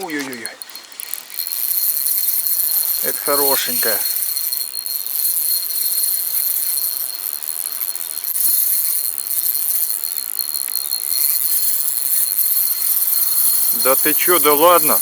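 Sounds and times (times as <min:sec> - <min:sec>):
fishing reel drag buzzing: 0:00.0 - 0:15.0.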